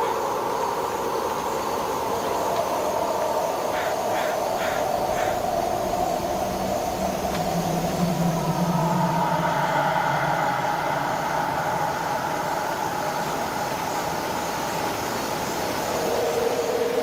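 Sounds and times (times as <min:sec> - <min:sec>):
dark rumbling drone with hollow tones: 0:03.3 - 0:17.0.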